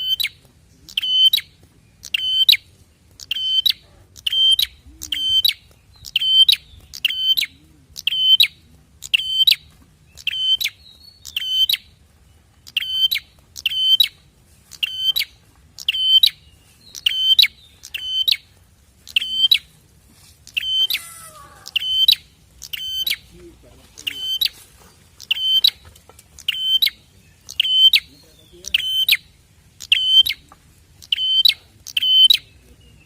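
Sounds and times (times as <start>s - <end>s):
bird calling buzzy notes: 0.0s - 2.6s, 3.2s - 9.6s, 10.2s - 11.9s, 12.6s - 19.7s, 20.5s - 24.6s, 25.2s - 25.8s, 26.4s - 32.7s.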